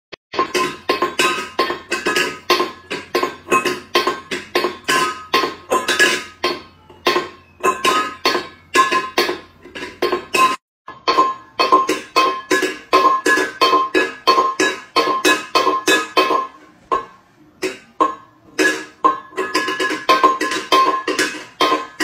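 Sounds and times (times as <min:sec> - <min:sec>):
metal bowl clanking on tiles: 0:00.3 - 0:22.0.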